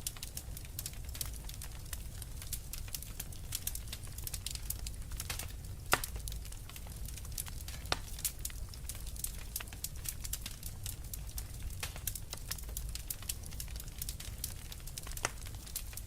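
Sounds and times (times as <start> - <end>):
loud fire pops: 0.0 - 16.0
low rumble of flame: 0.0 - 16.0
wood fire crackling: 0.0 - 16.0.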